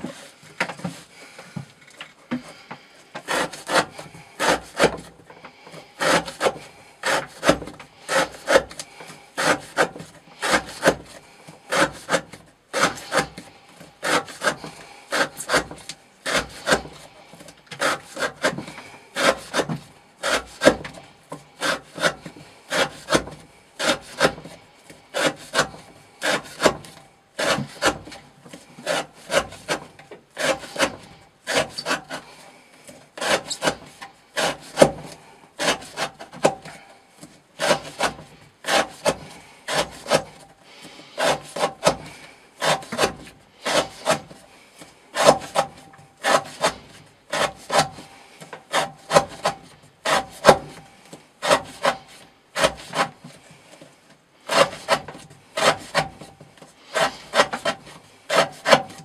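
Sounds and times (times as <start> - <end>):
knife slicing through rope: 3.3 - 5.1, 6.0 - 17.1, 17.8 - 21.0, 21.6 - 24.6, 25.2 - 32.4, 33.2 - 36.8, 37.6 - 40.4, 41.2 - 44.4, 45.2 - 48.1, 48.7 - 50.8, 51.4 - 53.3, 54.5 - 59.0.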